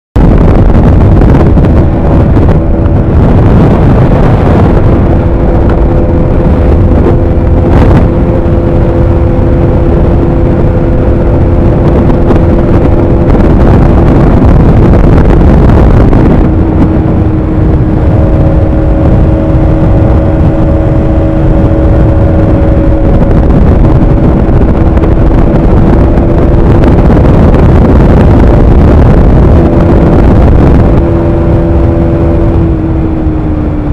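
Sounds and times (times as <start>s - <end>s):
wind rumble on microphone: 0.1s - 33.9s
motorcycle engine cruising: 0.2s - 33.9s.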